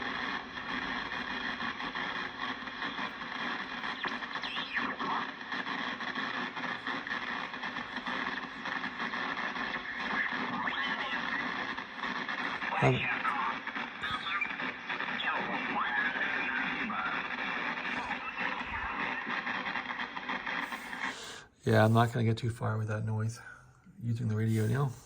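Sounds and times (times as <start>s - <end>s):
crackling electrical interference buzz: 0.0s - 22.2s, 24.3s - 25.0s
radio static hiss: 0.0s - 25.0s.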